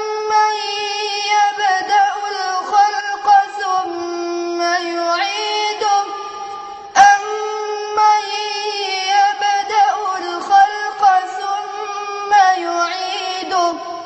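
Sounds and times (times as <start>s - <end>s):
boy chanting melodically: 0.0s - 14.0s.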